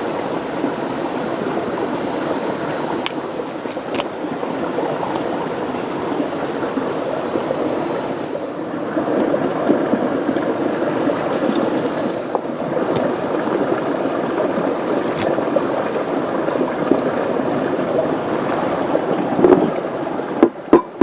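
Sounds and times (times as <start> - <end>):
river rushing and gurgling: 0.0 - 21.0
thin high whine: 0.0 - 21.0.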